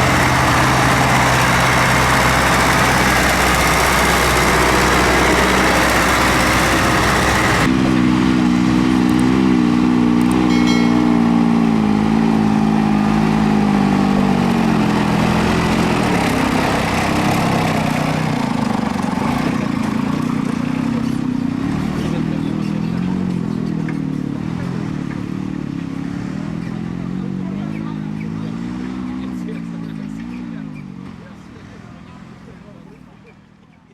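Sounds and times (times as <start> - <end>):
crowd noise: 0.0 - 8.0, 10.3 - 33.9
tractor engines: 0.0 - 33.9.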